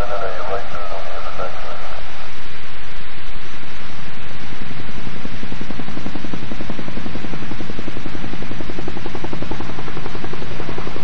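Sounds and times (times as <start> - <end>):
piston aircraft engine pulsing: 0.0 - 2.6, 4.1 - 11.0.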